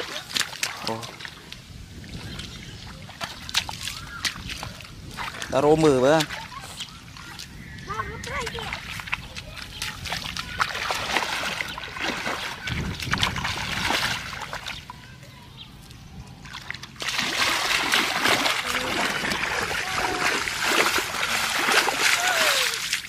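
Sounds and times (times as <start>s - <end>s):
footsteps splashing through water: 0.0s - 15.0s, 15.8s - 23.0s.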